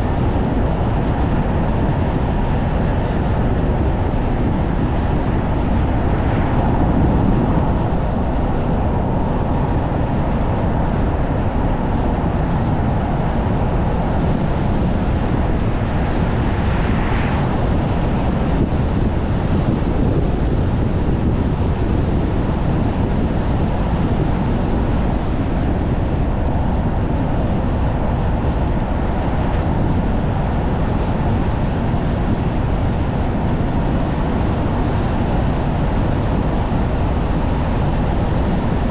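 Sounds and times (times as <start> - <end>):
road noise drone: 0.0 - 38.9
strong wind buffeting car: 0.0 - 38.9.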